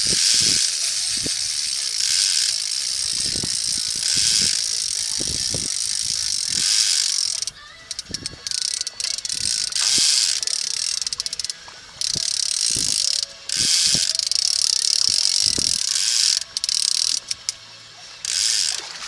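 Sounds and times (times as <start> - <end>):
fishing reel clicker buzzing: 0.0 - 19.0.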